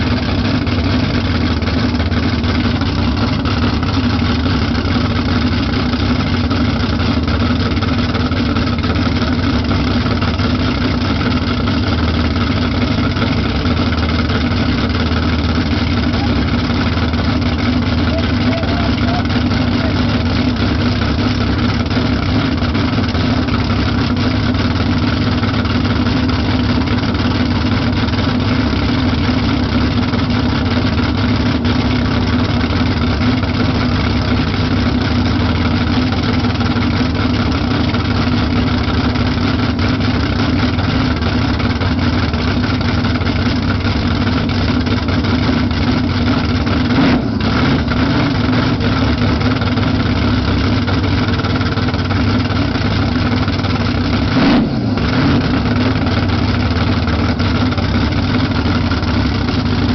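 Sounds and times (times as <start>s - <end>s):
drag car engine idling loudly: 0.0s - 59.9s.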